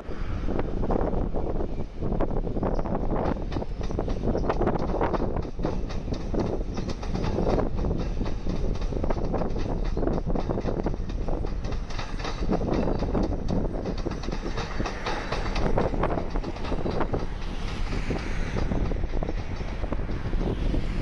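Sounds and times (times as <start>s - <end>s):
train rumble: 0.0s - 21.0s
train wheels clacking over rails: 2.2s - 21.0s.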